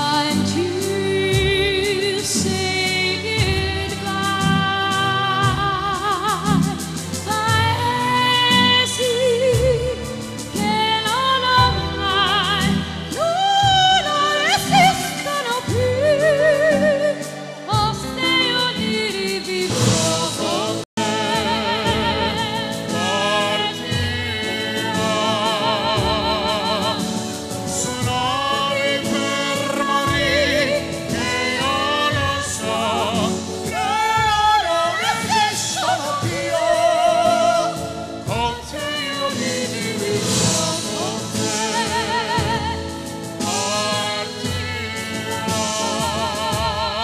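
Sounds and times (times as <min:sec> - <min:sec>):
live band playing: 0:00.0 - 0:47.0
singer with strong vibrato: 0:00.0 - 0:47.0.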